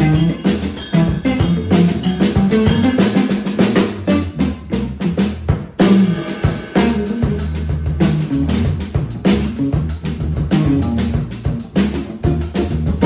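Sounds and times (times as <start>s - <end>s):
funk band playing: 0.0s - 13.0s.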